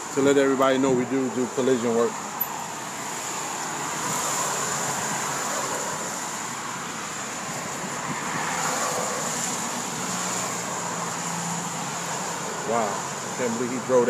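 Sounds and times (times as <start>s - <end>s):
car road and tyre noise: 0.0s - 14.0s.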